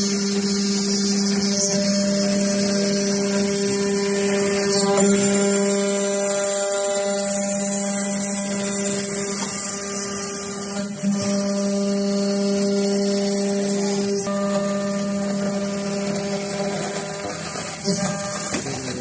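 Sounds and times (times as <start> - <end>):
cnc machine milling metal: 0.0 - 19.0.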